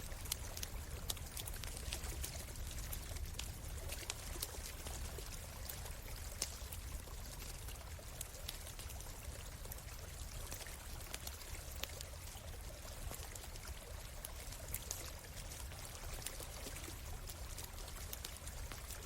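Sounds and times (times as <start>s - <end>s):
campfire crackling and popping: 0.0s - 19.0s
stream running: 0.0s - 19.0s.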